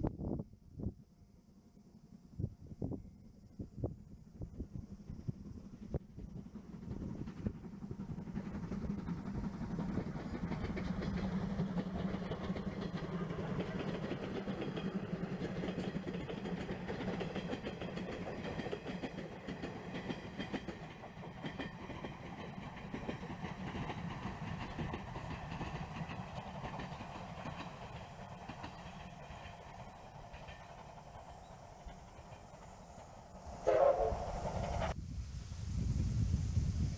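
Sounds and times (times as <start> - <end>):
distant steam locomotive: 1.0 - 36.9
train wheel clatter: 5.0 - 35.0.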